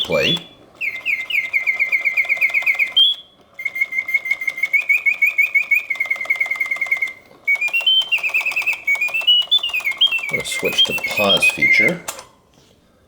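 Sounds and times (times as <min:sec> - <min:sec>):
mechanical bird whistle trilling: 0:00.0 - 0:12.3
faint mechanism clicking: 0:00.0 - 0:13.0.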